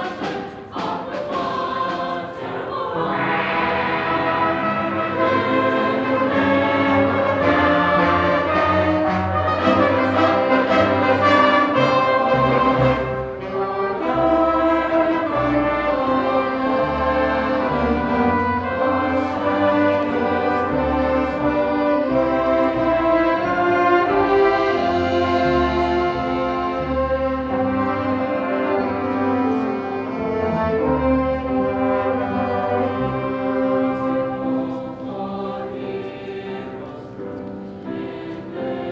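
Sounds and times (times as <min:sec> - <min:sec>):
choir singing: 0:00.0 - 0:38.9
instrumental ensemble accompanying: 0:00.0 - 0:38.9.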